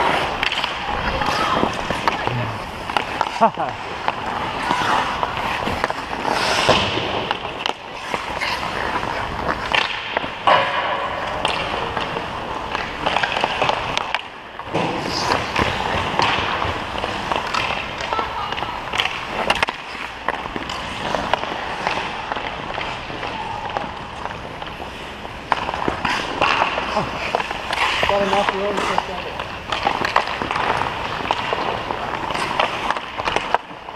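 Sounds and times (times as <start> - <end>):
hockey sticks striking pucks: 0.0 - 33.9
skates scraping on ice: 0.0 - 33.9.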